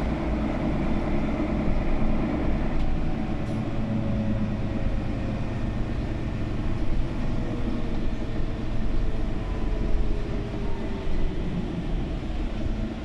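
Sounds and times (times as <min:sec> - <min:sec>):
bus interior rumble: 0:00.0 - 0:13.0.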